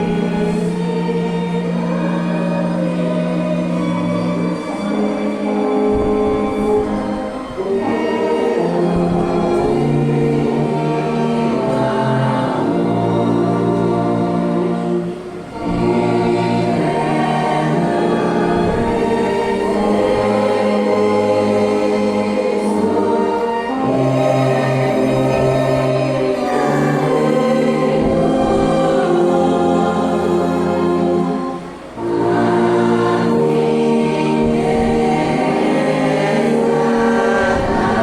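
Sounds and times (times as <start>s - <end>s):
choir singing a hymn: 0.0s - 38.0s
orchestral accompaniment: 0.0s - 38.0s.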